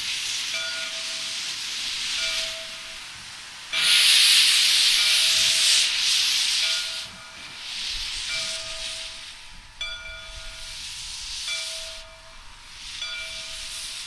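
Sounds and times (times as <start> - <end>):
loud rush of escaping steam: 0.0 - 14.0.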